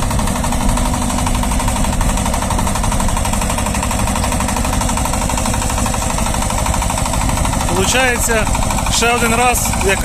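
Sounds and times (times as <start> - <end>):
diesel tractor engine running: 0.0 - 10.0
rotary tiller knocking rattle: 0.0 - 10.0.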